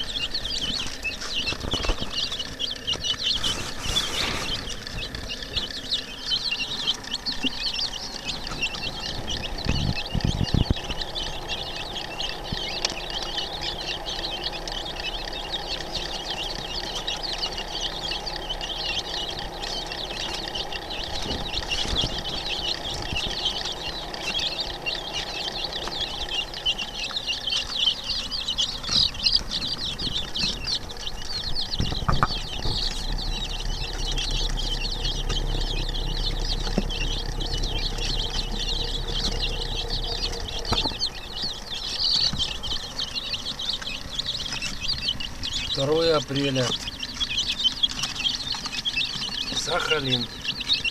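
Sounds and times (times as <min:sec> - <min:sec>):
chicks peeping: 0:00.0 - 0:50.9
low hum: 0:00.0 - 0:50.9.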